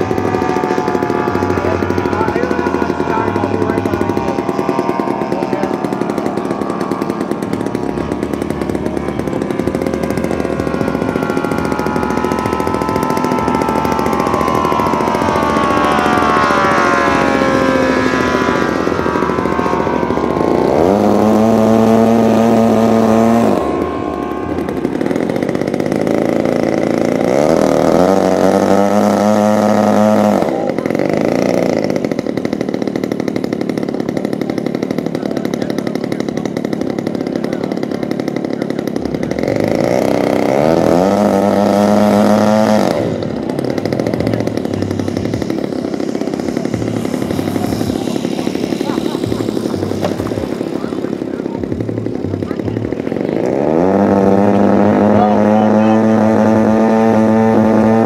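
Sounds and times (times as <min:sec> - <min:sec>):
model airplane engine in flight: 0:00.0 - 0:58.0.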